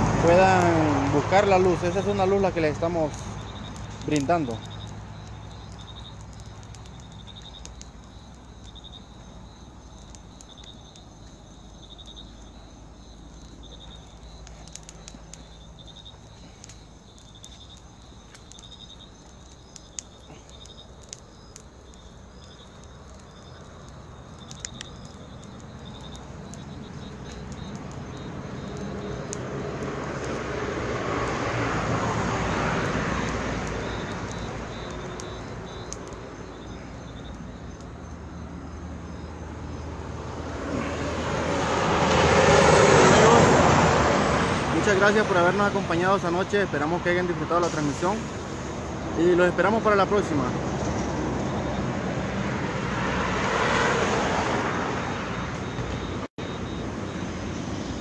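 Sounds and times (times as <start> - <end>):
crickets chirping: 0.0 - 58.0
fire crackling and popping: 0.0 - 58.0.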